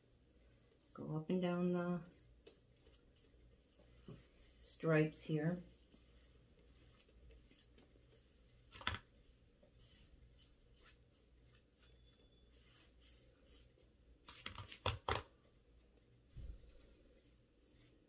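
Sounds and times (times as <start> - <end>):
foam brush on board: 0.0 - 14.7, 16.4 - 18.0.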